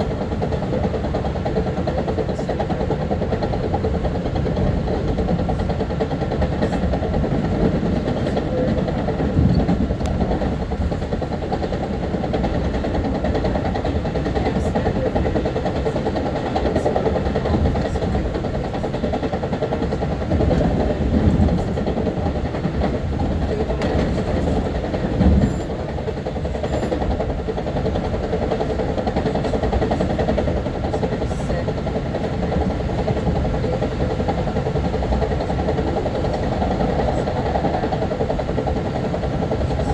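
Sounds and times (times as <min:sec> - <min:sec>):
train bumps: 0:00.0 - 0:39.9
train wheels rumbling on rail: 0:00.0 - 0:39.9.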